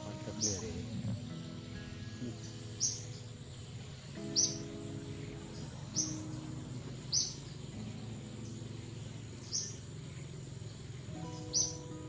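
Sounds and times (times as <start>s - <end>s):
held low background tones: 0.0s - 12.0s
high bird chirps: 0.0s - 12.0s.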